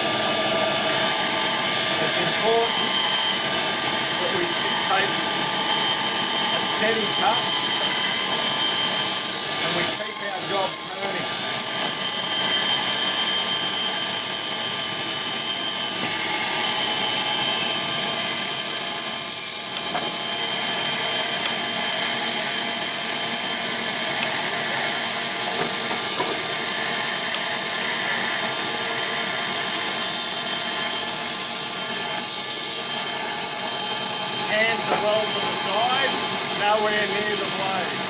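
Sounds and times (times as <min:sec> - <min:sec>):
bandsaw cutting: 0:00.0 - 0:38.0.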